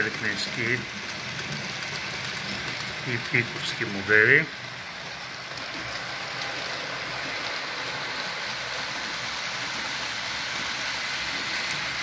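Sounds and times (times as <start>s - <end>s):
model train wheels rolling on rails: 0.0s - 12.0s.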